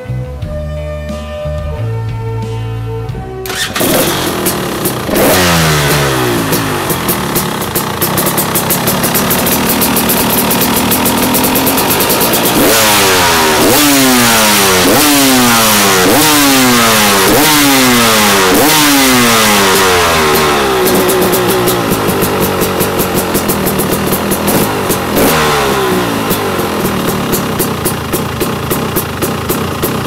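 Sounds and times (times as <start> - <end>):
engine revving: 3.4 - 30.0
two-stroke engine idling: 3.4 - 30.0.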